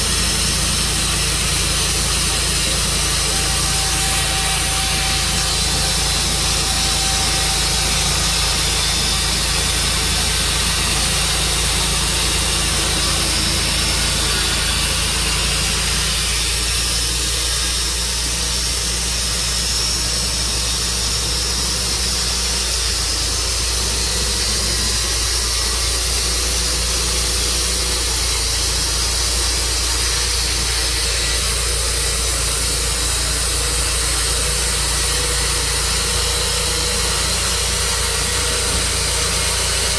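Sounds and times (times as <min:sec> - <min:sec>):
saw cutting log: 0:00.0 - 0:39.9
sawmill engine running under load: 0:00.0 - 0:39.9.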